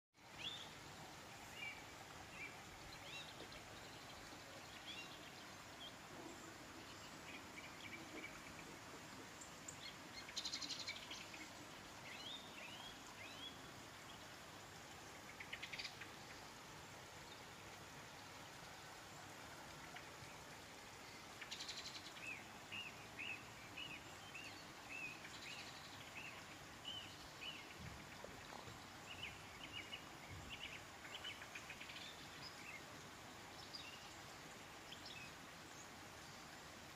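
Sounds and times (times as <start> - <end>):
steady background hiss: 0.2 - 36.9.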